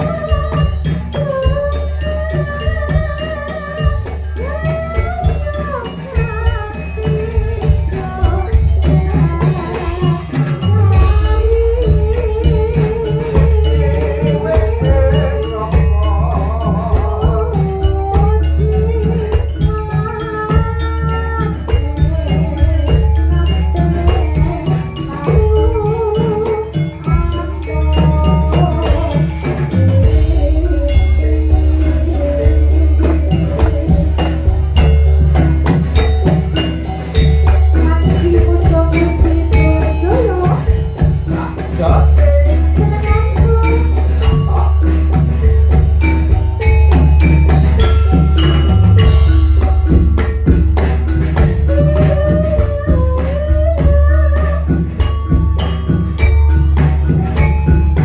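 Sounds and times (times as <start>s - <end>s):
dense drumming and percussion: 0.0s - 58.0s
wavering vibrato melody: 0.0s - 58.0s.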